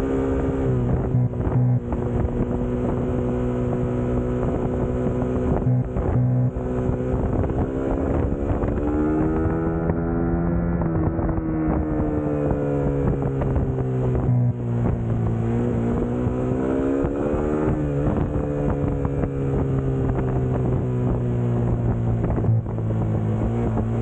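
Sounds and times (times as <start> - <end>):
motorcycle engine running: 0.0 - 24.0
wind on microphone: 0.0 - 24.0.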